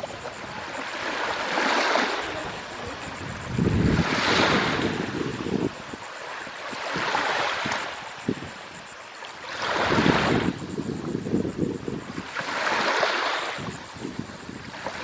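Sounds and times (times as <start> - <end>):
wind buffeting microphone: 0.0 - 8.9, 9.6 - 15.0
waves washing in: 0.0 - 15.0.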